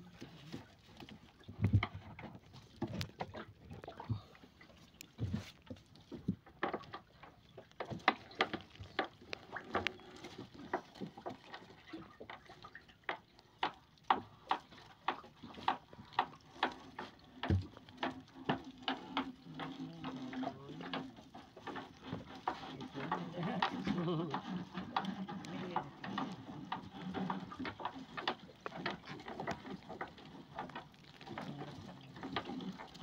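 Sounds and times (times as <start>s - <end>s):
net clicking and knocking on boat: 0.0s - 4.3s, 5.0s - 33.0s.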